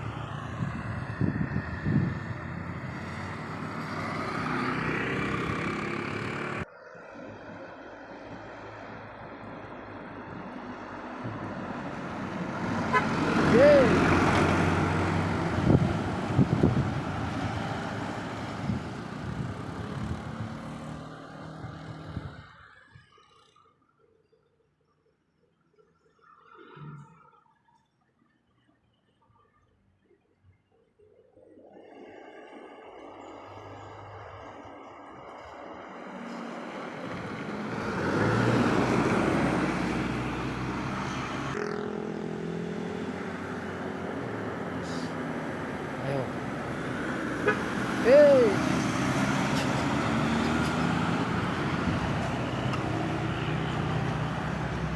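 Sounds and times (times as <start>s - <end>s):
heavy vehicle engine passing: 0.0s - 22.7s, 32.7s - 54.9s.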